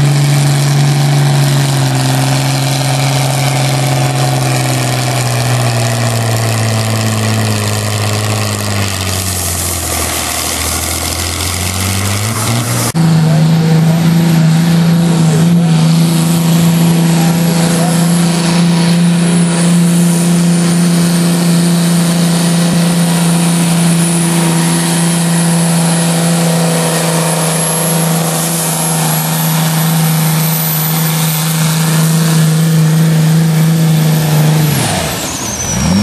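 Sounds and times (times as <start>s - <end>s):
tractor engine at full throttle: 0.0s - 36.0s.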